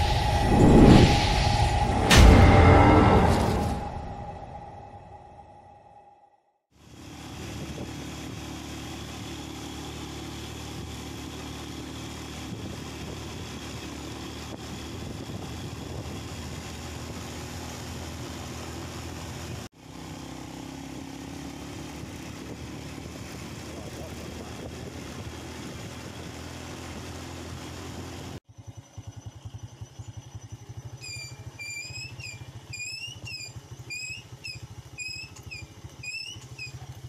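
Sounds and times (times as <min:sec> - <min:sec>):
engine running steadily: 0:06.7 - 0:37.0.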